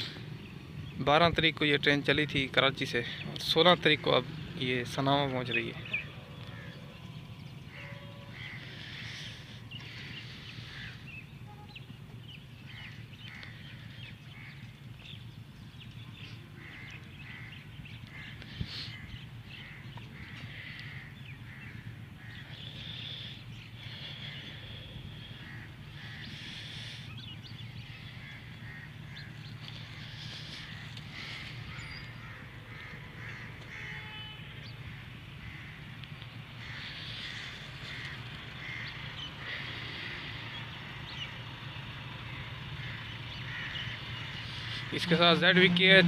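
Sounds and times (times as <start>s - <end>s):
crows cawing: 5.0s - 11.3s, 12.6s - 15.2s, 16.1s - 46.0s.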